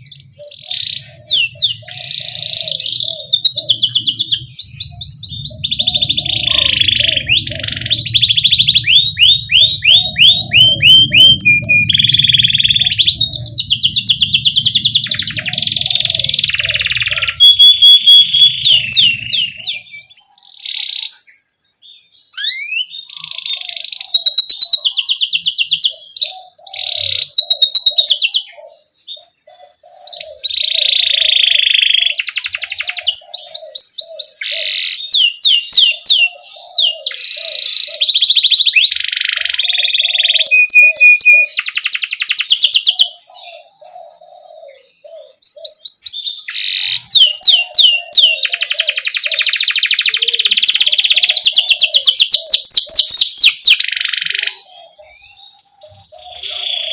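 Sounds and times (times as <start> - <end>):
canary singing: 0.0 - 56.9.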